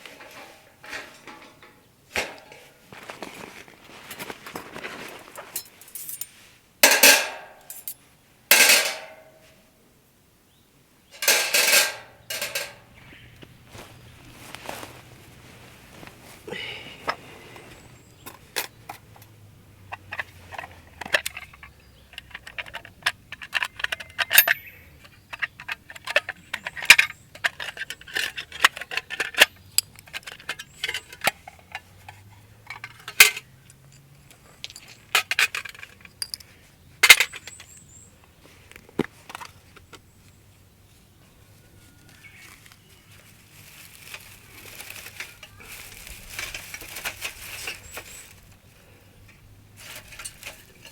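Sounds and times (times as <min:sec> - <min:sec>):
metal camp gear clinking: 0:00.0 - 0:09.5, 0:11.1 - 0:38.1, 0:43.8 - 0:50.9.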